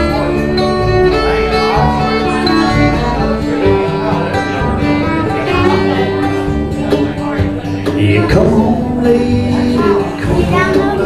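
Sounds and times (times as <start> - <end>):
fiddle: 0.0 - 11.0
guitar: 0.0 - 11.0.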